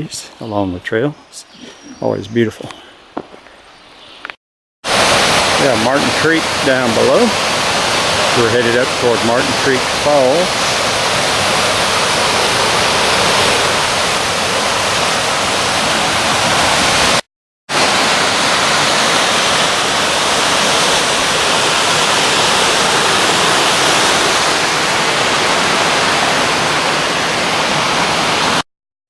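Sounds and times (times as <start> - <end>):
rushing water of cascades: 4.9 - 28.6.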